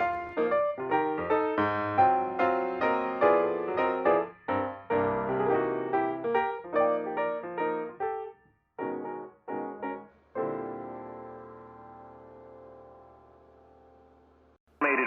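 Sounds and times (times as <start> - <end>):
piano music: 0.0 - 14.5.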